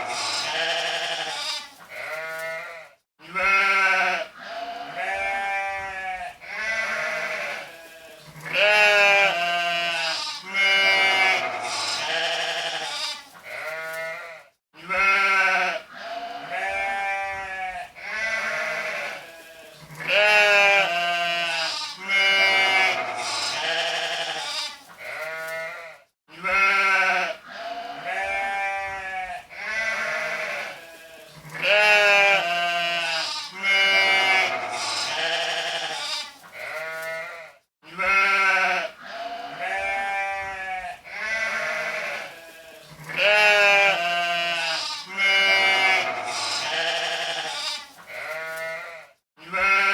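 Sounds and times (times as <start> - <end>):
sheep bleating: 0.0 - 49.9.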